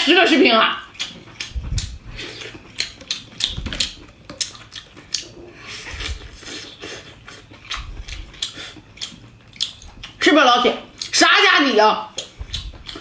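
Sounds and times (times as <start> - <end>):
crisp chewing of fried food: 0.0 - 10.3, 12.0 - 13.0.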